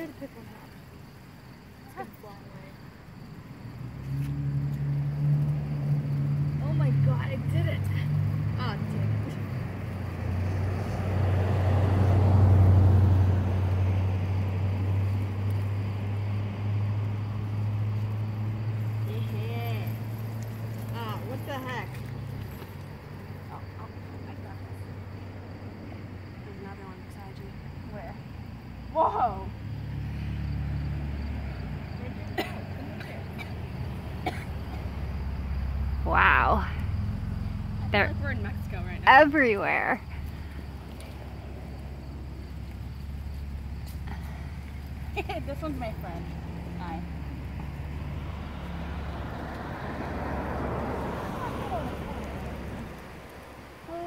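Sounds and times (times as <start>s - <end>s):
vehicle engine passing: 3.4s - 54.0s.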